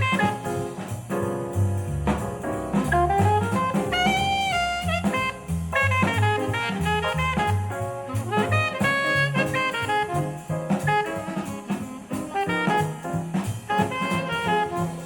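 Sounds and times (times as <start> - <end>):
jazz music with bass and drums: 0.0 - 15.0.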